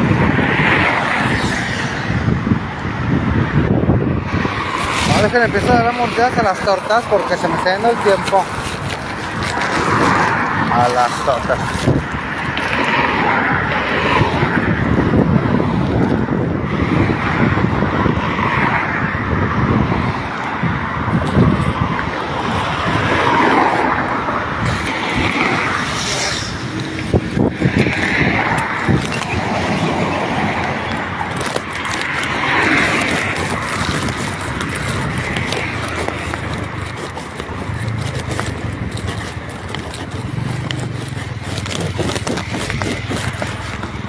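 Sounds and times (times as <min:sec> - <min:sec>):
street traffic rushing: 0:00.0 - 0:44.0
wind on microphone: 0:00.0 - 0:44.0.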